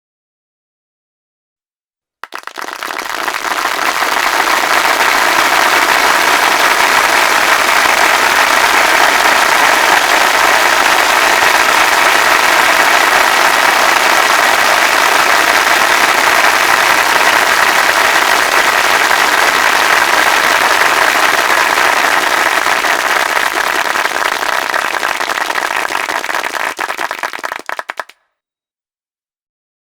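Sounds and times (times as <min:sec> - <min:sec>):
crowd applauding: 0:02.2 - 0:28.2.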